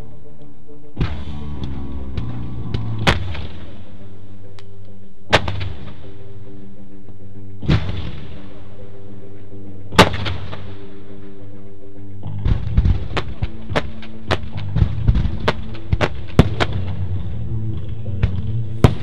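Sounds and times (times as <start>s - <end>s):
music playing: 0.0s - 19.0s.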